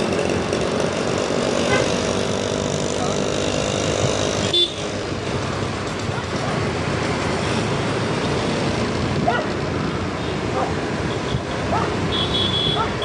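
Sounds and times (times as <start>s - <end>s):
motorbike engine: 0.0s - 13.0s
wind and road noise: 0.0s - 13.0s.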